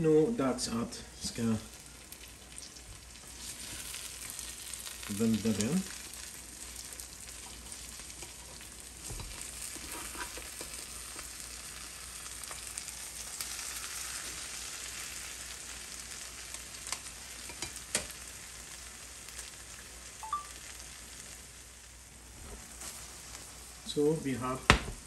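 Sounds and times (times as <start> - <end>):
omelette sizzling in pan: 1.0 - 25.0.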